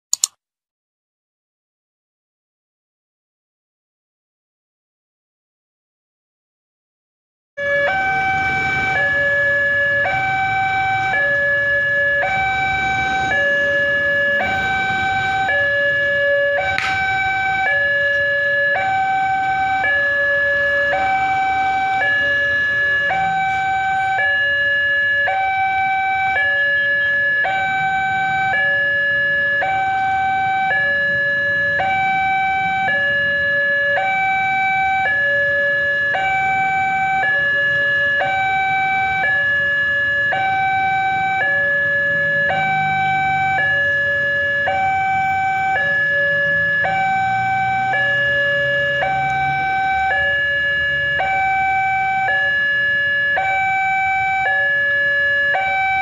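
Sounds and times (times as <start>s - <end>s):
level crossing two-tone alarm: 7.6s - 56.0s.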